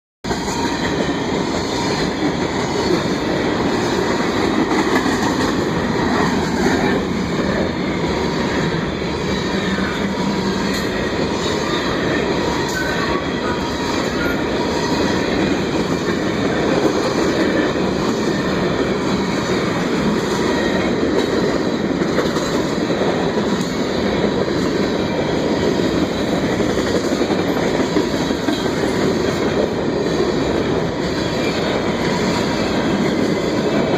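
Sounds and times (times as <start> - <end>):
train cars rolling on rails: 0.2 - 33.9.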